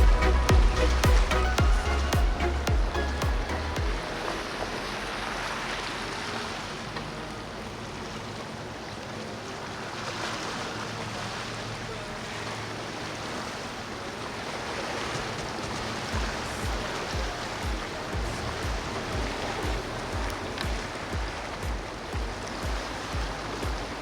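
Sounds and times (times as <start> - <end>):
low hum of boat engines: 0.0 - 24.0
waves and churning water: 0.0 - 24.0.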